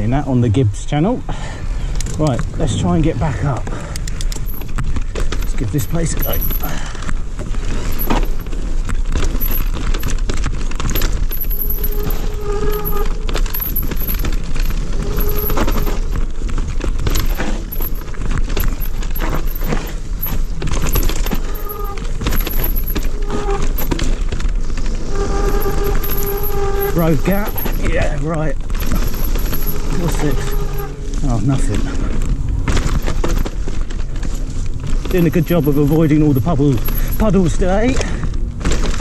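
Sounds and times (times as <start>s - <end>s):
bike chain and components rattling: 0.0s - 39.0s
tyres and wind rumble: 0.0s - 39.0s.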